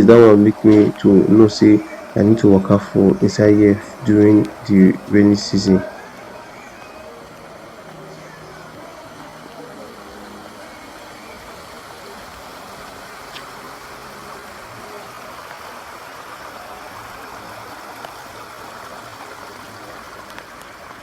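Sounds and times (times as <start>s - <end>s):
rainwater rushing over street: 0.0s - 21.0s.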